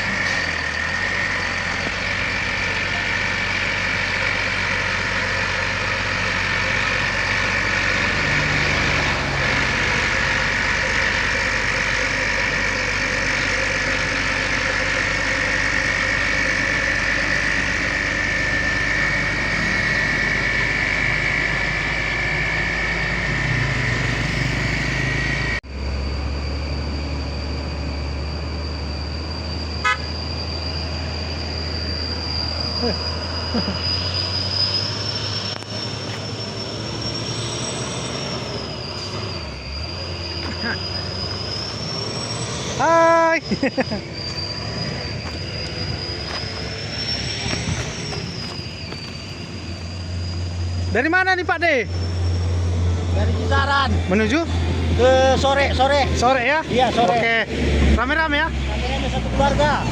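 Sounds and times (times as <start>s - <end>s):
heavy truck engine running: 0.0s - 59.9s
high whine: 0.0s - 59.9s.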